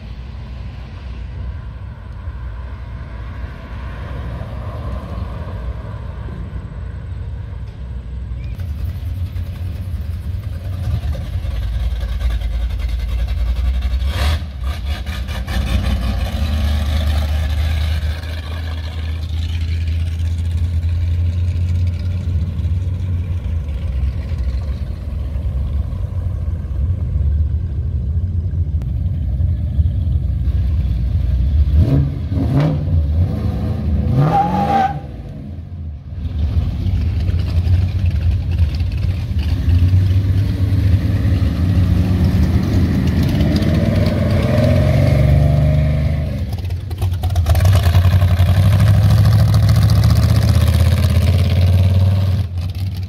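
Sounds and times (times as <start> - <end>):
car engines rumbling past: 0.0 - 53.0.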